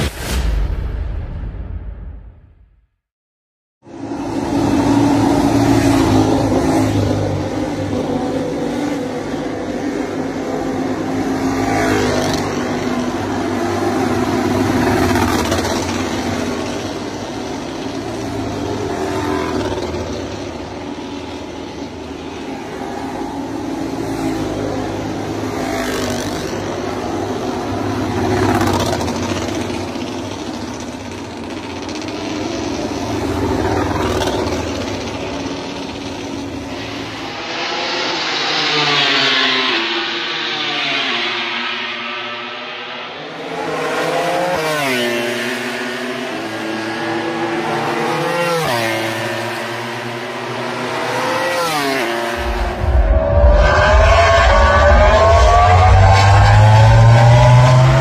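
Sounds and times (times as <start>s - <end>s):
racing motorcycles passing: 3.9s - 58.0s.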